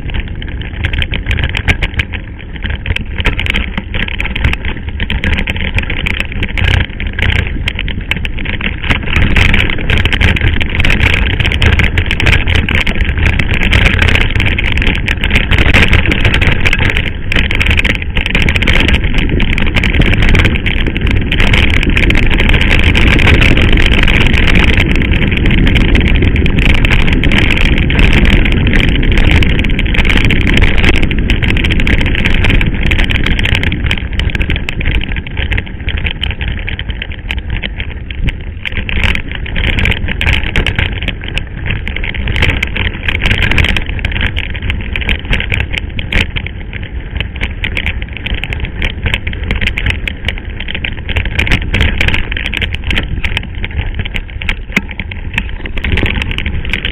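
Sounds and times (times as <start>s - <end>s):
bike rattling over stones: 0.0s - 56.9s
tyres crunching on gravel: 0.0s - 56.9s
wind noise on microphone: 0.0s - 56.9s.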